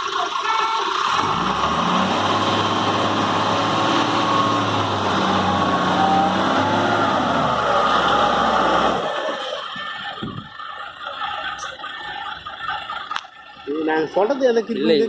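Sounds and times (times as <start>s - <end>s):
diesel engine revving under load: 0.9s - 13.7s.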